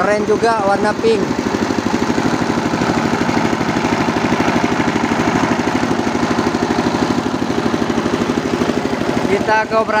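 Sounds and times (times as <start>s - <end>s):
diesel generator engine running: 0.0s - 10.0s.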